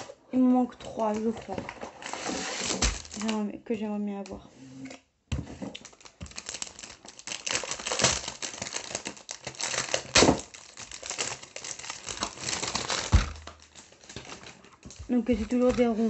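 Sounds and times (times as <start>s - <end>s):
plastic wrapping crinkling: 0.0s - 3.5s, 5.4s - 16.0s.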